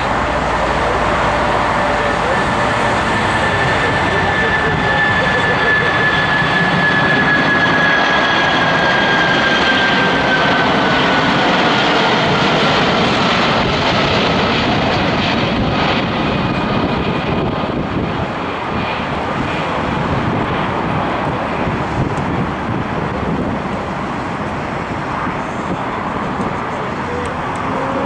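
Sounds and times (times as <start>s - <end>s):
jet airliner engines roaring: 0.0s - 28.0s.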